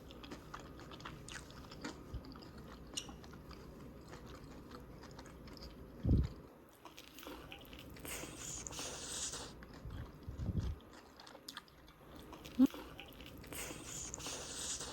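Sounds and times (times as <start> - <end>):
chewing: 0.0 - 14.9.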